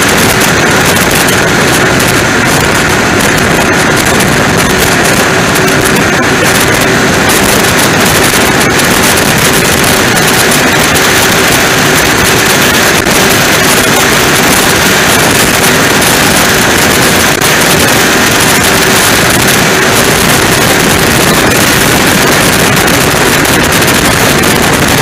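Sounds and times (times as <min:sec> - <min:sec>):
powerboat engines rumbling: 0:00.0 - 0:25.0.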